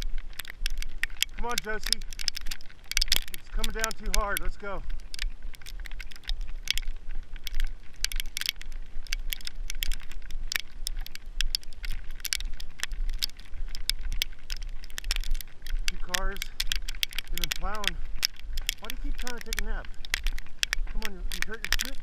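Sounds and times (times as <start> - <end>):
crisp ticks of falling snow: 0.0 - 22.0
wind rumble on microphone: 0.0 - 22.0.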